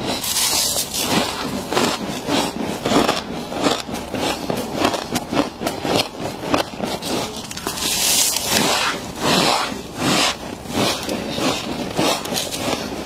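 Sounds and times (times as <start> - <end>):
frost being scraped and bitten: 0.0 - 13.0.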